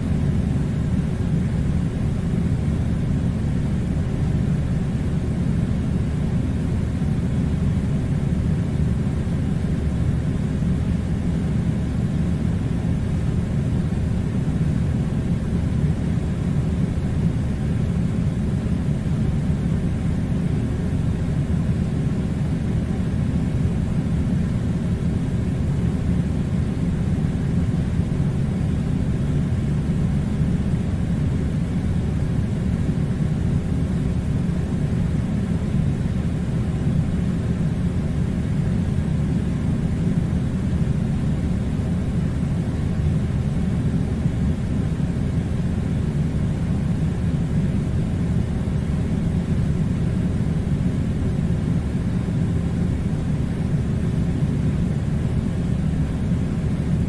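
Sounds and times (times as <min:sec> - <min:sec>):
air conditioner low rumble: 0:00.0 - 0:57.0.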